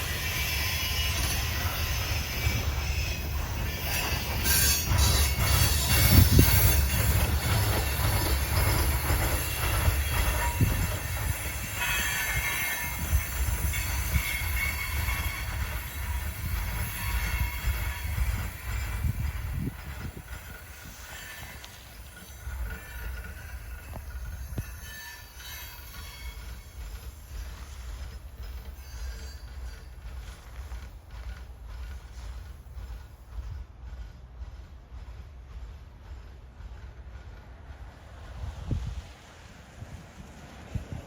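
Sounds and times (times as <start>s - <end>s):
steel wheels squealing: 0.0s - 33.1s
freight train rumbling: 0.0s - 41.0s
train clanks: 0.0s - 41.0s.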